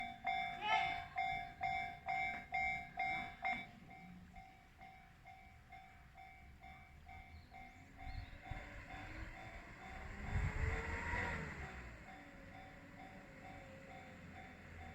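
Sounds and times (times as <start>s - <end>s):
level crossing warning bell: 0.0s - 14.9s.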